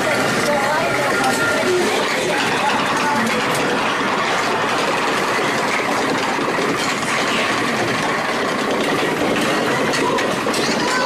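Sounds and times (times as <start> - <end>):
ride car rumbling and rattling: 0.0 - 11.0.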